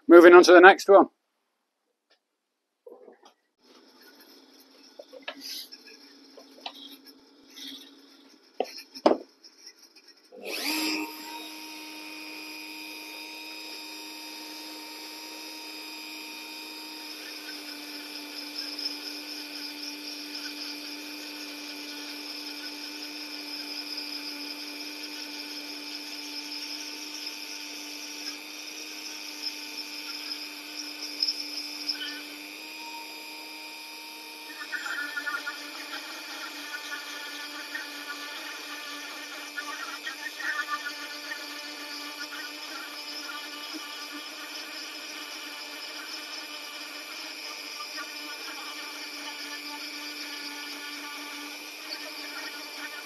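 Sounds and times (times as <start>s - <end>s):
rotary tool grinding wood: 3.6s - 53.0s.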